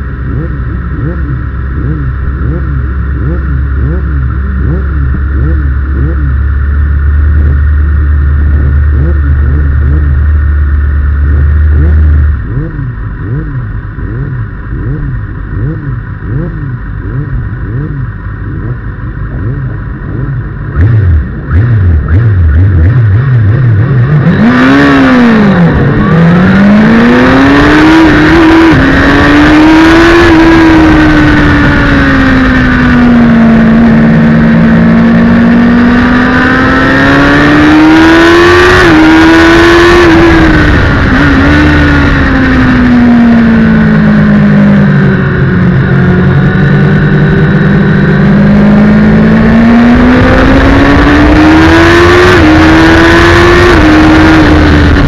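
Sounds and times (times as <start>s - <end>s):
other race bikes: 0.0s - 55.0s
racing motorcycle engine revving: 0.0s - 55.0s.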